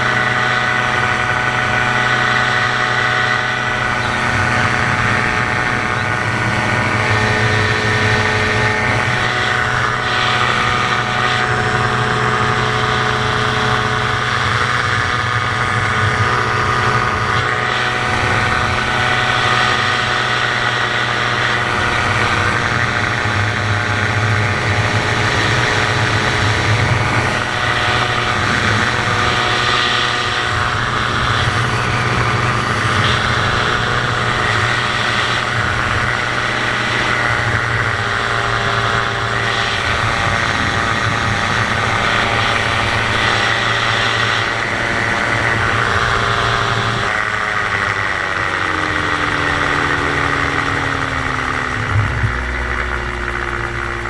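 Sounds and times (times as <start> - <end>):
gyroplane engine droning: 0.0 - 54.0
wind noise: 0.0 - 54.0.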